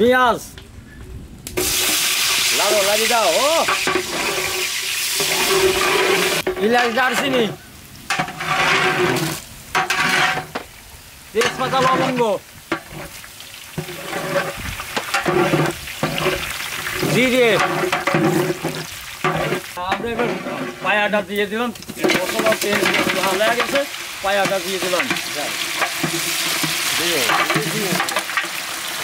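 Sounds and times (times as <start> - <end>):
onions sizzling in hot oil: 1.6 - 29.0.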